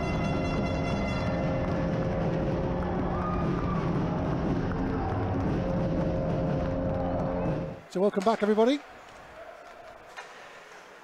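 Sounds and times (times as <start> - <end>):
crowd and rink din: 0.7 - 11.0.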